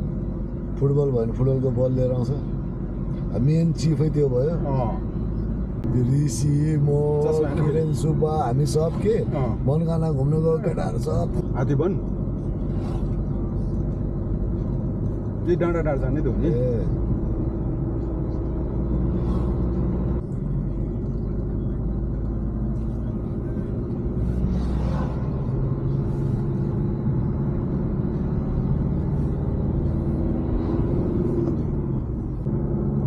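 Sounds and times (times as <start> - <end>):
vehicle engine and road rumble: 0.0 - 33.0.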